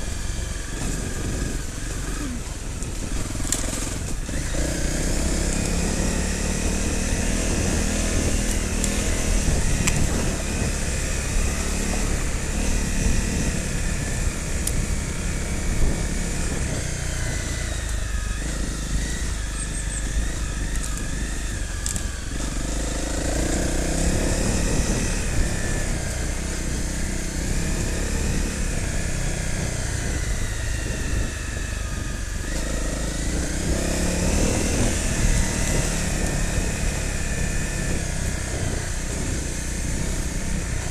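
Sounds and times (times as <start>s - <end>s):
off-road motorcycle engine: 0.0s - 40.9s.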